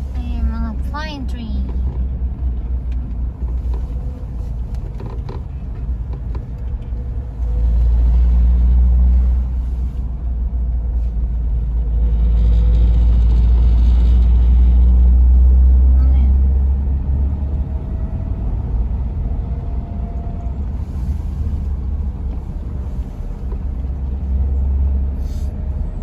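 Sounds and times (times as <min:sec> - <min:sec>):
car driving low rumble: 0:00.0 - 0:26.0.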